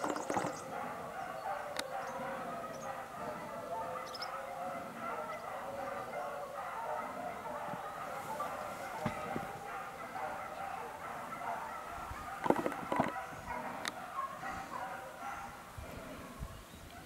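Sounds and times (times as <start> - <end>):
birds chattering: 0.0 - 17.0.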